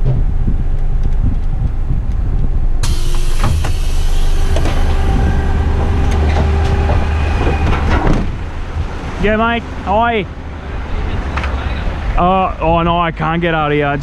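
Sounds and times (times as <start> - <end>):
outside noise: 0.0 - 14.0
truck engine idling: 2.6 - 14.0.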